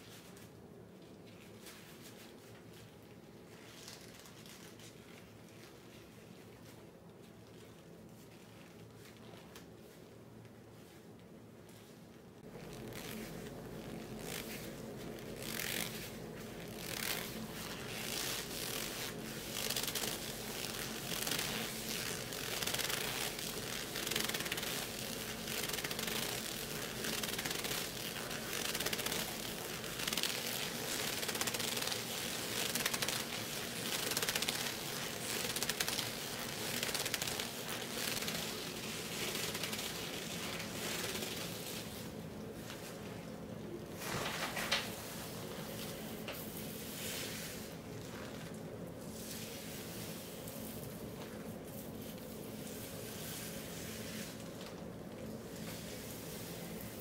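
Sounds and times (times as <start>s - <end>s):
leather gloves rubbing: 1.3s - 48.6s.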